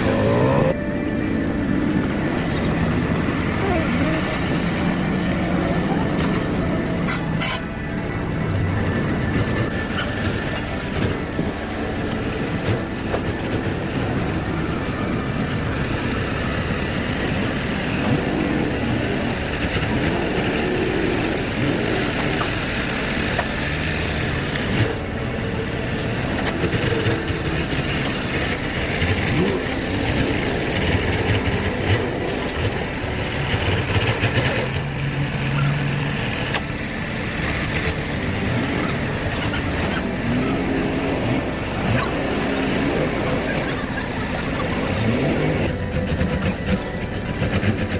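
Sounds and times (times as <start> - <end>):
heavy vehicle rumbling: 0.0 - 47.9
rattles and clatter: 0.0 - 47.9.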